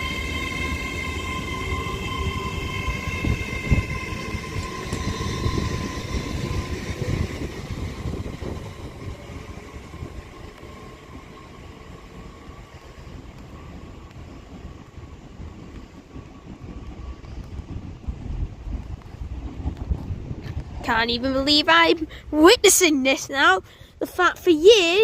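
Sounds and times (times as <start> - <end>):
electric train traction whine: 0.0 - 22.4
train wheels rumbling over rails: 0.0 - 25.0.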